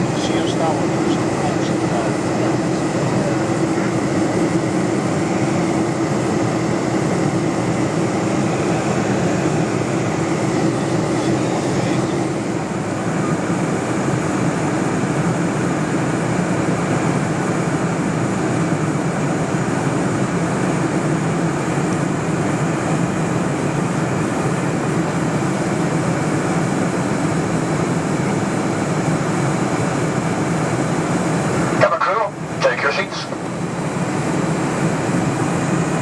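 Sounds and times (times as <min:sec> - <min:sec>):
airplane cabin engine roar: 0:00.0 - 0:36.0.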